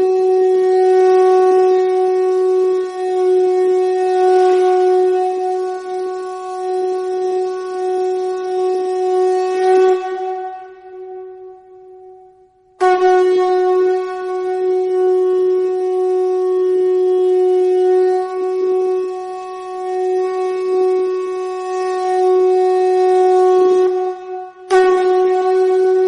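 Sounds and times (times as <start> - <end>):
conch shell blown: 0.0 - 26.0.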